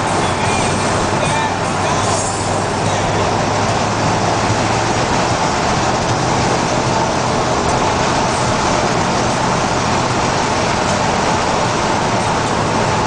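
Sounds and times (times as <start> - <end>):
car engine hum: 0.0 - 13.0
road and wind noise: 0.0 - 13.0.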